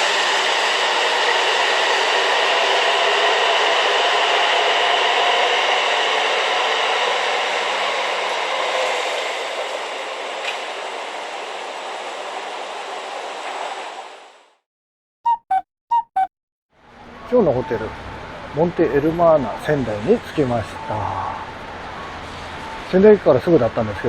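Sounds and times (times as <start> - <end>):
train running on rails: 0.0 - 14.6, 16.8 - 24.0.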